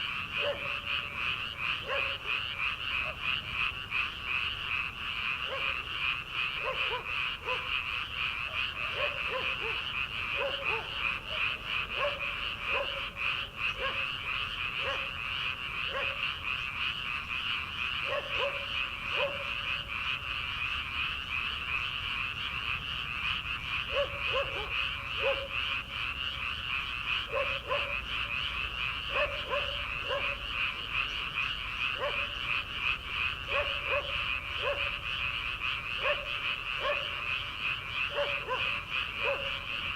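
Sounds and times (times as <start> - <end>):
low frog croaks: 0.0 - 39.9.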